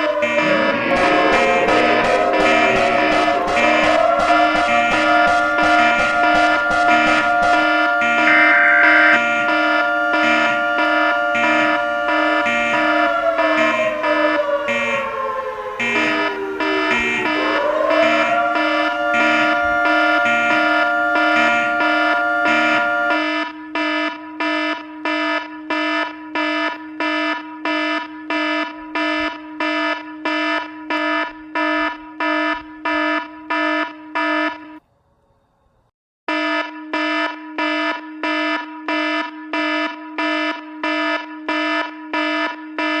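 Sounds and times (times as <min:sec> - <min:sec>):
harsh buzzing alarm beeps: 0:00.0 - 0:15.1, 0:15.8 - 0:34.8, 0:36.3 - 0:43.0.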